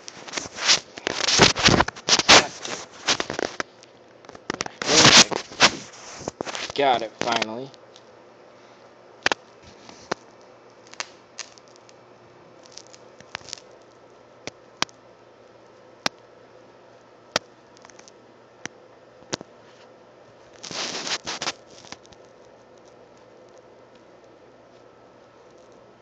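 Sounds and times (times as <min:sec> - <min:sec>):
wire crackling and popping: 0:00.0 - 0:08.2, 0:09.2 - 0:16.4, 0:17.0 - 0:19.6, 0:20.2 - 0:25.9
transformer electrical hum: 0:00.0 - 0:26.0.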